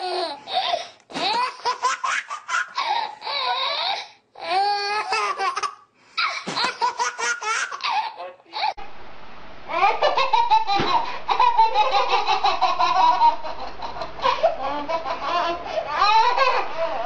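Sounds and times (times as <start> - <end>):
baby laughing: 1.1 - 3.9, 4.9 - 8.8, 9.7 - 17.0.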